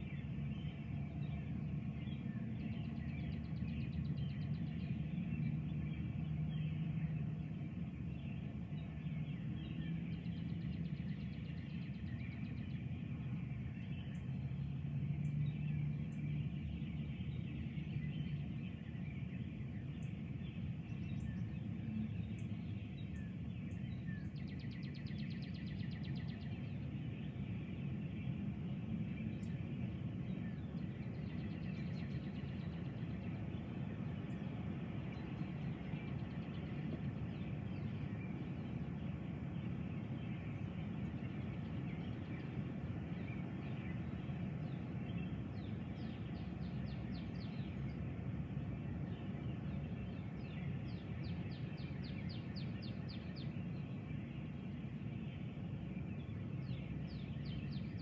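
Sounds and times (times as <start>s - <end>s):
low rumble and hum: 0.0s - 58.0s.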